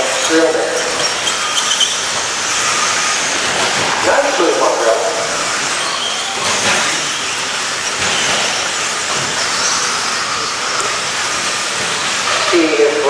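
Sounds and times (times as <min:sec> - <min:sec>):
electric motor whines: 0:00.0 - 0:12.6.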